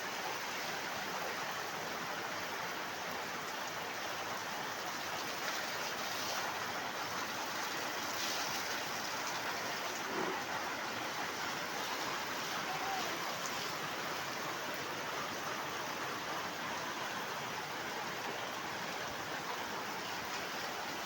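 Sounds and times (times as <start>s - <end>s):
running rainwater: 0.0s - 21.0s
heavy rain falling: 0.1s - 21.0s.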